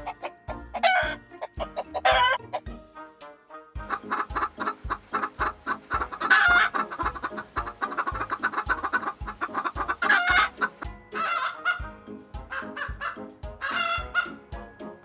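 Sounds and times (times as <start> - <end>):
chicken squawking calls: 0.0 - 2.5, 3.8 - 11.9, 12.5 - 14.4
chickens clucking: 0.0 - 2.7, 3.8 - 15.0
background music with steady beat: 0.0 - 15.0.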